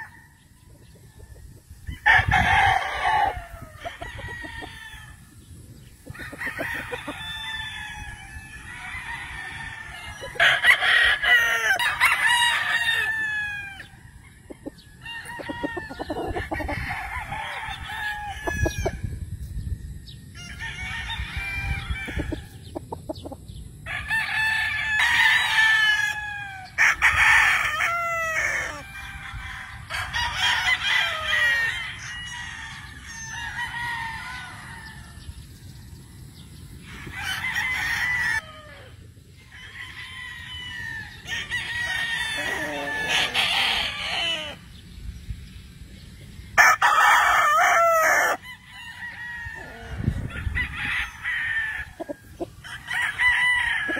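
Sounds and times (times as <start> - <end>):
roosters crowing: 0.0 - 53.9.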